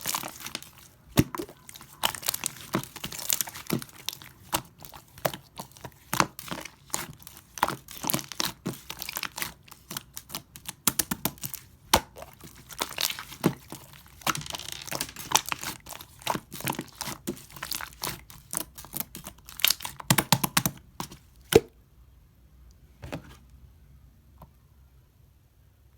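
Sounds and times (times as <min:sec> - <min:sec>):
slime squishing: 0:00.0 - 0:21.7.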